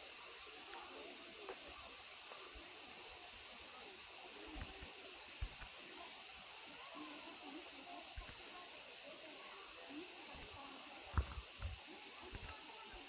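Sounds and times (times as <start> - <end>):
faint distant voices: 0.0 - 13.0
high-pitched insect chorus: 0.0 - 13.0.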